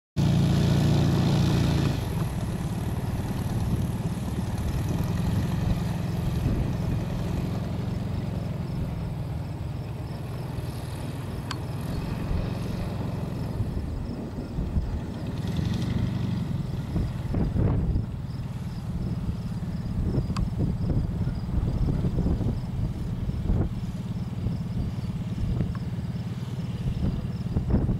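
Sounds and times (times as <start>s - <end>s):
small piston engine and propeller: 0.2s - 27.9s.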